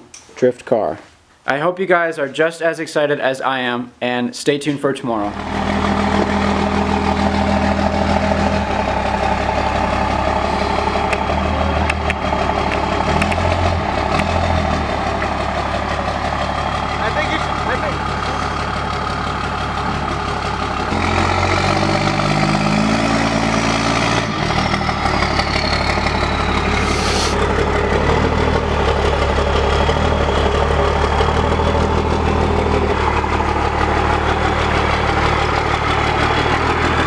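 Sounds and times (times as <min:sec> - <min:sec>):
diesel truck engine idling: 0:05.3 - 0:37.0.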